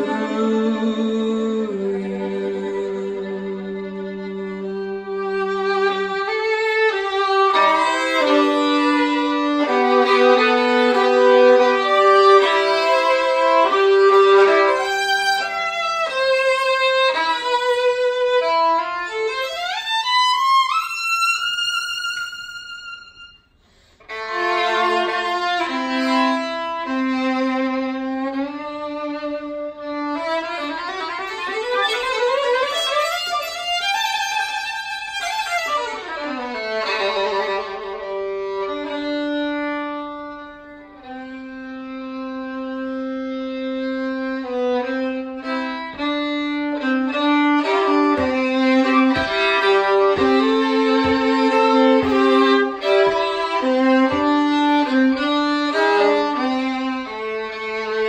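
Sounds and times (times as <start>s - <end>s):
solo violin playing: 0.0s - 58.0s.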